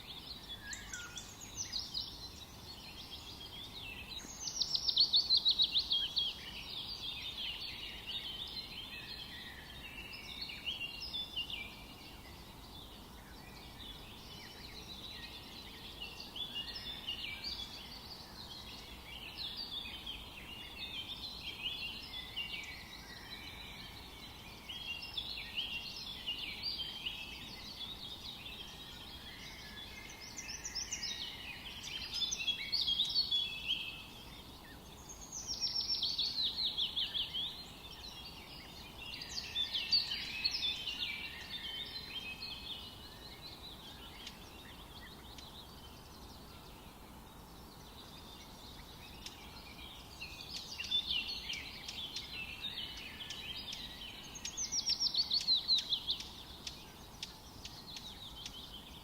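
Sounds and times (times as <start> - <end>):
faint background hiss: 0.0 - 59.0
songbirds chirping and trilling: 0.0 - 59.0.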